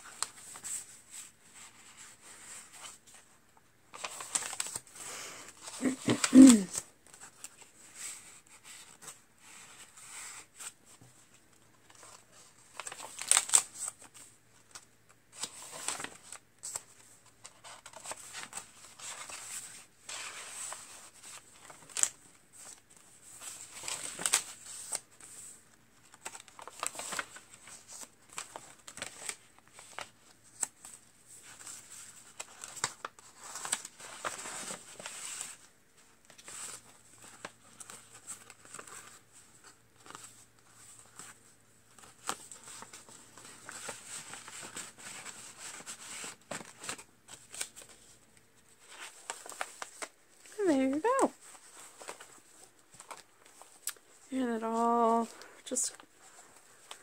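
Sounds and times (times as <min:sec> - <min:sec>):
paper pages rustling: 0:00.0 - 0:57.0.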